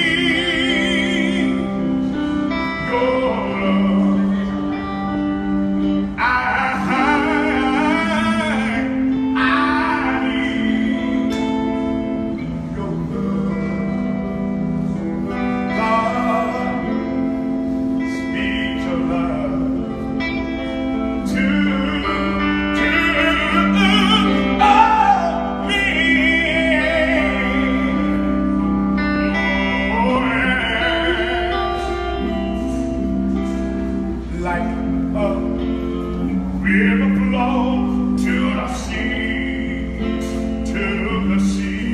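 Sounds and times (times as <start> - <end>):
instrumental held chords: 0.0 - 41.9
man singing: 0.0 - 41.9.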